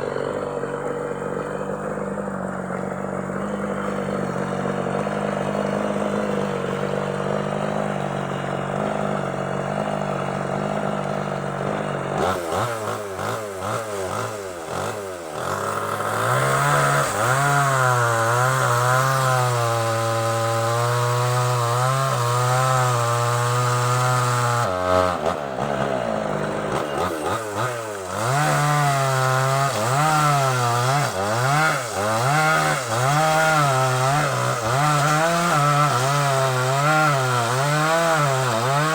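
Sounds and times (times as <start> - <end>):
chainsaw sawing through log: 0.0 - 38.9.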